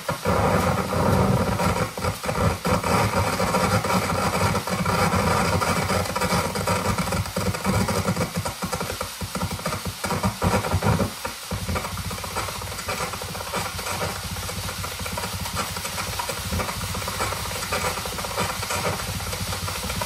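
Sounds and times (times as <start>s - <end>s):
crackling hissing noise music: 0.0s - 20.0s.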